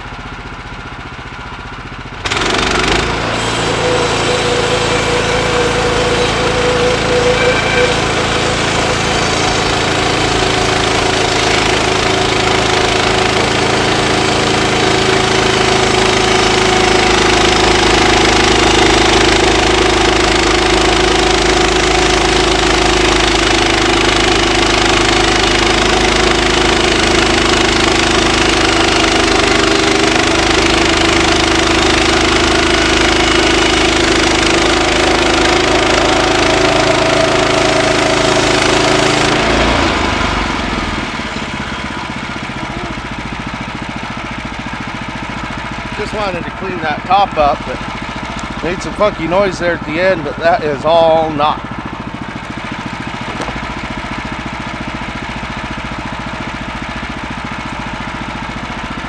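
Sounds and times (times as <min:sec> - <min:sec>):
bandsaw mill cutting log: 0:02.0 - 0:59.0.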